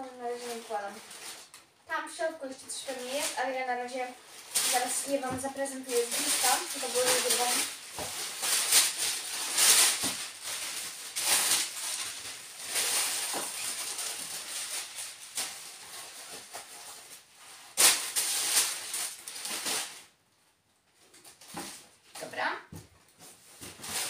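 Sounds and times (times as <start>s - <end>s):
packing paper rustling and crinkling: 0.0s - 20.2s, 20.9s - 24.0s.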